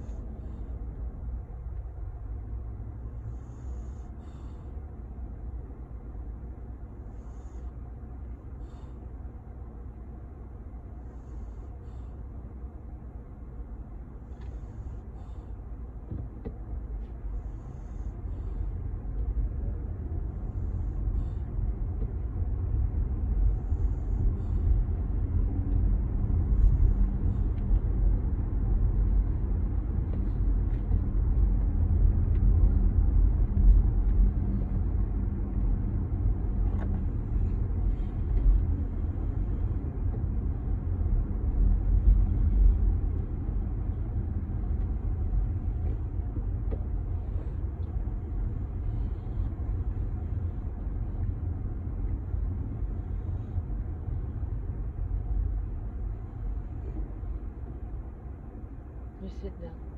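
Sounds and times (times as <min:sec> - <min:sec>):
vehicle rumbling on the move: 0:00.0 - 0:59.9.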